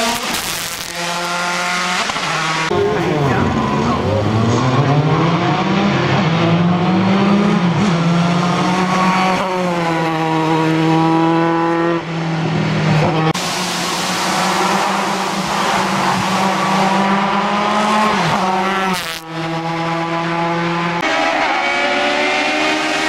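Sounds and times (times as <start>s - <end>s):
distant race car engine: 0.0s - 23.0s
race car engine accelerating: 0.0s - 23.0s.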